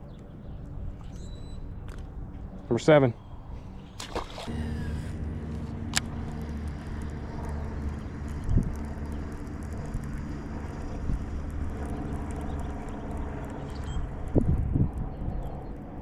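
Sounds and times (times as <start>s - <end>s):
engine running low hum: 0.0s - 16.0s.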